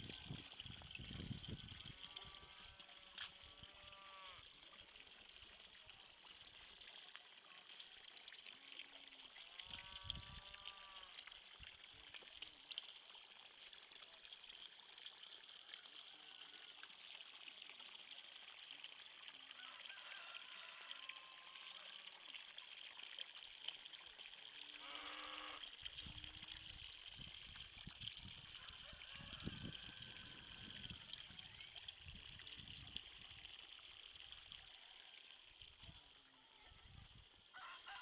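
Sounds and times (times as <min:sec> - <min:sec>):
trickle of water: 0:00.0 - 0:38.0.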